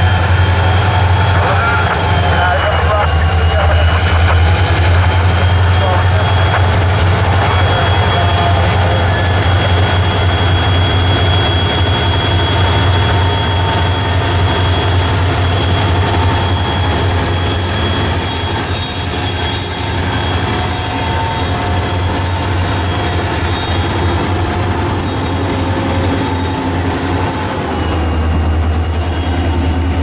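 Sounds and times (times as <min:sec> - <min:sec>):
freight train rumbling: 0:00.0 - 0:30.0
train wheels squealing: 0:00.0 - 0:30.0.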